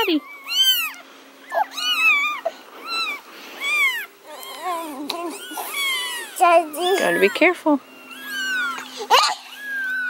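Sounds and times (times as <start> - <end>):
kittens mewing: 0.0 - 10.0.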